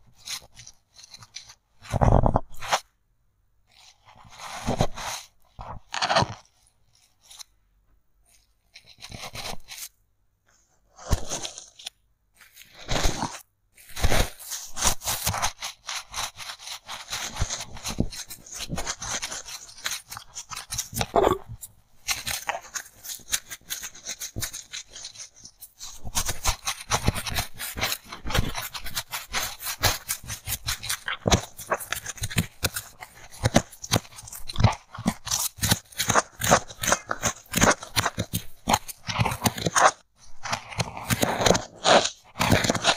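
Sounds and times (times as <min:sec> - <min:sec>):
sticks scraping crumbly foam: 0:00.0 - 0:02.9, 0:03.7 - 0:07.6, 0:08.2 - 0:42.9.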